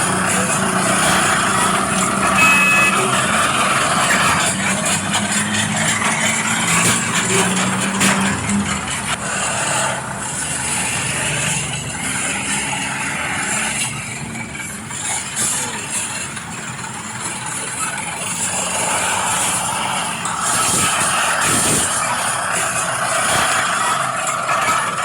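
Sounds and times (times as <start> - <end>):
small motors and gearing whirring: 0.0 - 25.0.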